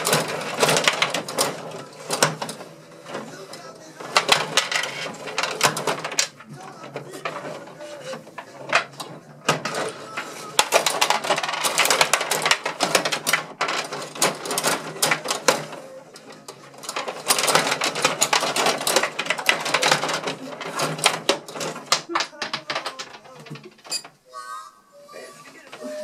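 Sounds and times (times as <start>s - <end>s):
plastic rods rattling and clacking: 0.0s - 24.2s.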